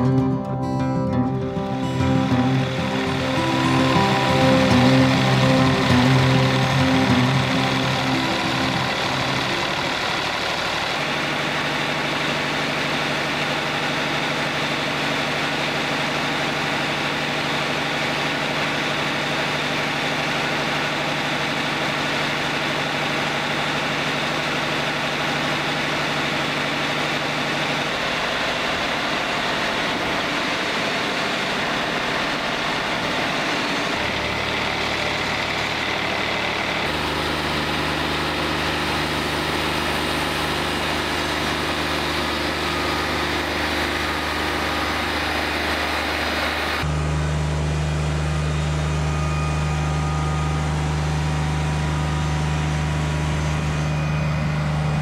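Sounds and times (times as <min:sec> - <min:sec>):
bandsaw mill running: 0:01.3 - 0:55.0.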